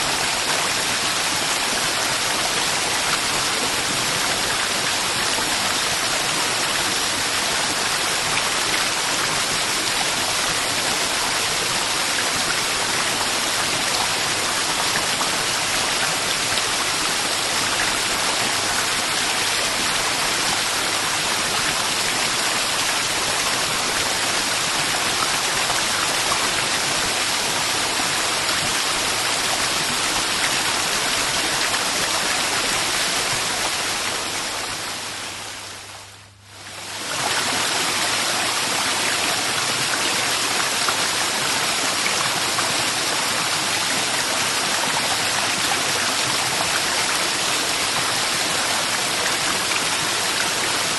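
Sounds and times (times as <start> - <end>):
waterfall rushing: 0.0 - 35.7, 36.7 - 50.9.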